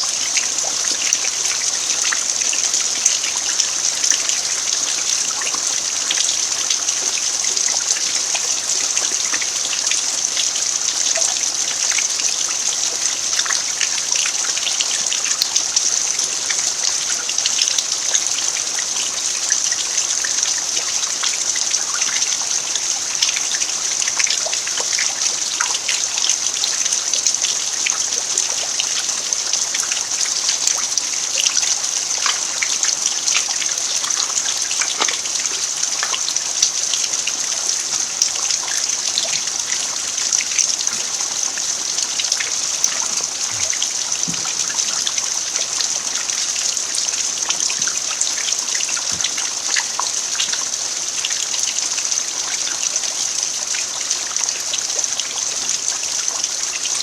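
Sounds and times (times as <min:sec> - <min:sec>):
rain falling on dirt: 0:00.0 - 0:57.0
trickling water: 0:00.0 - 0:57.0.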